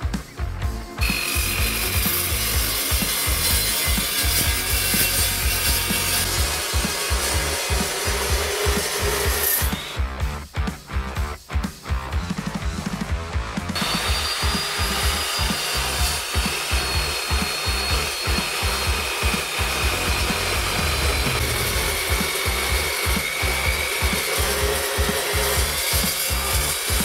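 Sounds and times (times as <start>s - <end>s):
chop saw grinding through steel: 1.0s - 10.0s, 13.8s - 27.0s.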